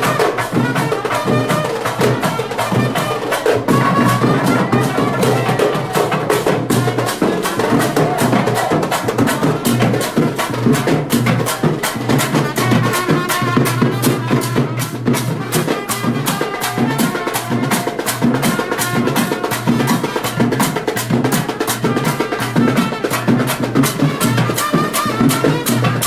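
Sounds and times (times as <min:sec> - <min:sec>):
brass melody: 0:00.0 - 0:26.0
clacking percussion: 0:00.0 - 0:26.0
fast drumming: 0:00.0 - 0:26.0.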